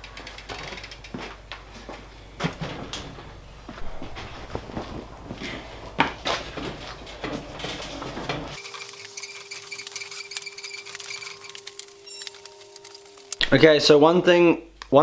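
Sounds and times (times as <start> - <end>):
bike being handled: 0.0 - 13.4.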